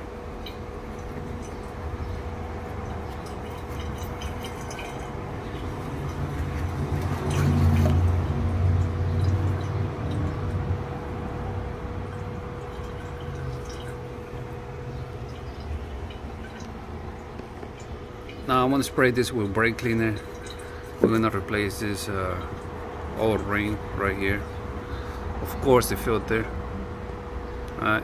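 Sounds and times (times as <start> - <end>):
faint steady hum: 0.0 - 28.0
oil pouring and dripping: 0.2 - 26.0.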